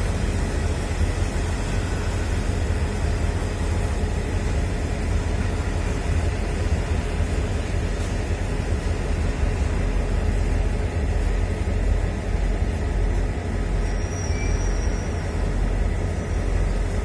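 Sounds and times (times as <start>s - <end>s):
freight train wagons rolling: 0.0s - 17.0s.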